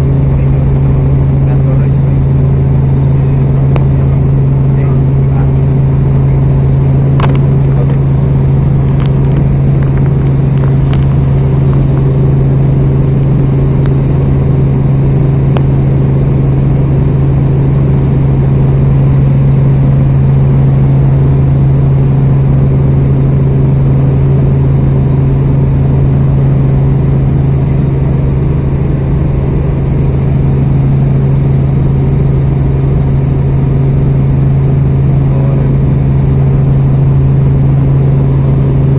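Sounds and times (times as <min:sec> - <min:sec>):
helicopter droning: 0:00.0 - 0:38.9.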